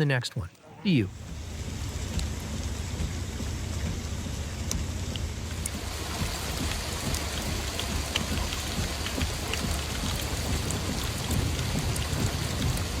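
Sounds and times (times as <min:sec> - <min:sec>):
heavy rain: 0:00.9 - 0:13.0
low rumble: 0:01.1 - 0:13.0.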